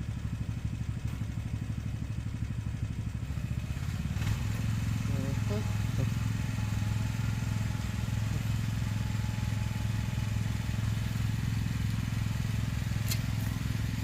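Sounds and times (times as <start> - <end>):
truck engine running at low revs: 0.0 - 14.0.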